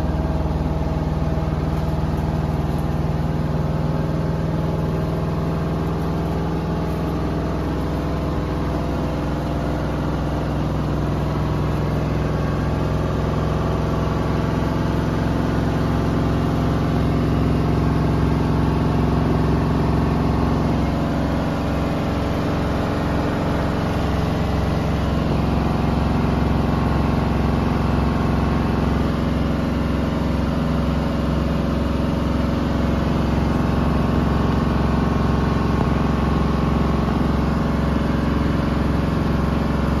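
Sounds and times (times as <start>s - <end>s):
washing machine motor hum: 0.0s - 40.0s.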